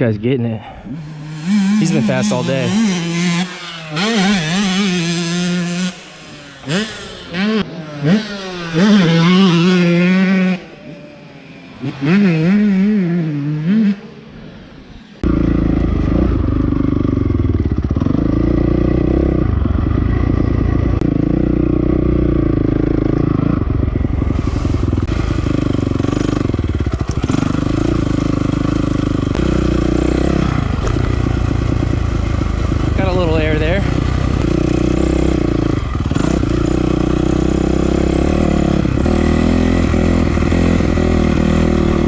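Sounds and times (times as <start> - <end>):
dirt bike engine revving: 0.6 - 14.6, 15.2 - 42.0.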